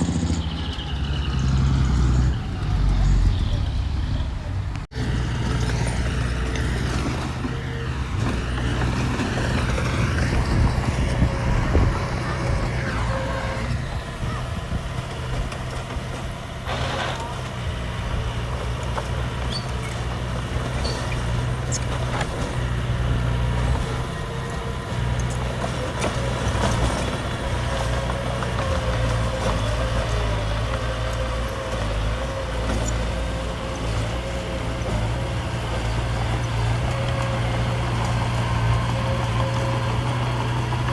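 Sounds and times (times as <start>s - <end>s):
heavy machinery diesel engine running: 0.0s - 40.9s.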